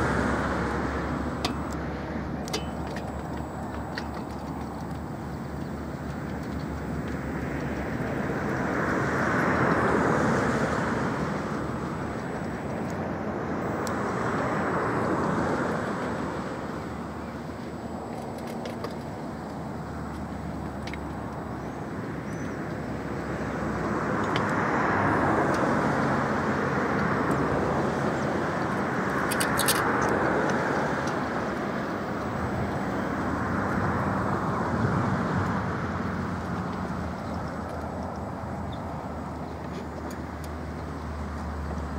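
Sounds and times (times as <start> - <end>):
road traffic passing: 0.0 - 41.9.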